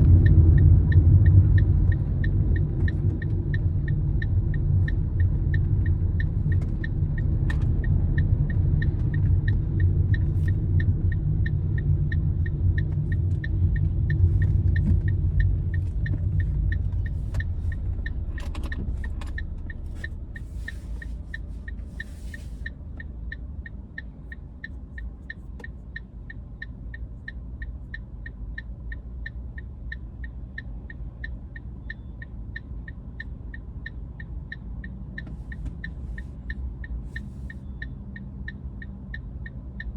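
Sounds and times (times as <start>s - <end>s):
car road and engine rumble: 0.0s - 39.9s
turn signal ticking: 0.0s - 39.9s.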